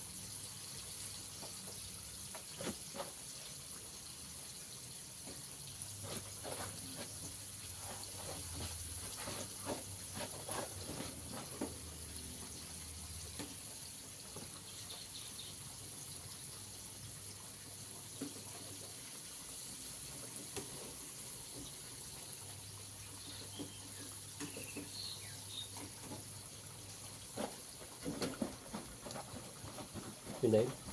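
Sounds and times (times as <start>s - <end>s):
chicken deep-frying in oil: 0.0s - 30.9s.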